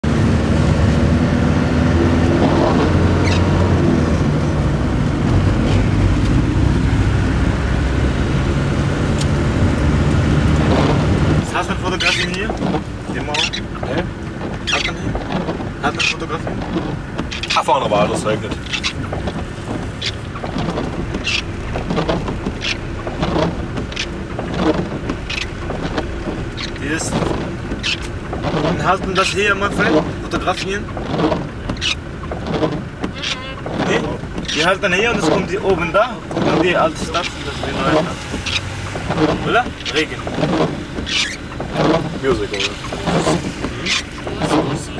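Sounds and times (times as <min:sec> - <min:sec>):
engine and road noise inside vehicle: 0:00.0 - 0:44.9.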